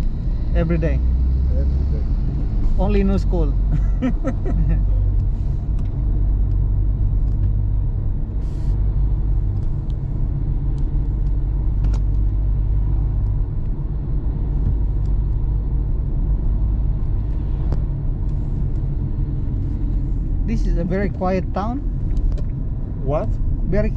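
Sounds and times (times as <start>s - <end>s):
car engine and tyre rumble: 0.0s - 23.9s.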